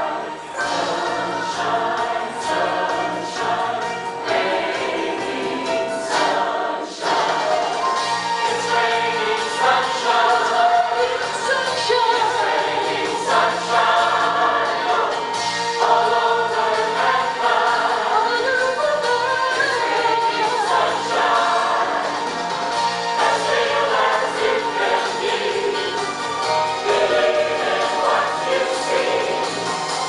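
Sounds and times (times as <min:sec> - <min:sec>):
mixed choir singing: 0:00.0 - 0:30.0.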